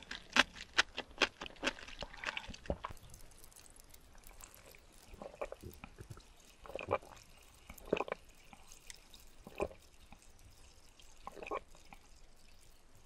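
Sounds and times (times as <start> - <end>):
person gulping water: 0.0 - 10.3, 11.2 - 12.1.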